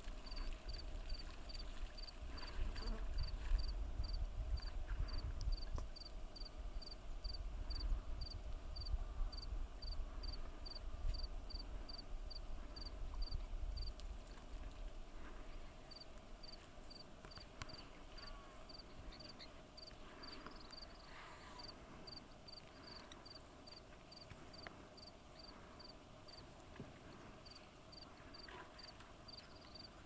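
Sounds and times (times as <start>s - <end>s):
insect chirping: 0.2s - 13.9s, 15.9s - 26.4s, 27.4s - 28.5s, 29.3s - 29.9s.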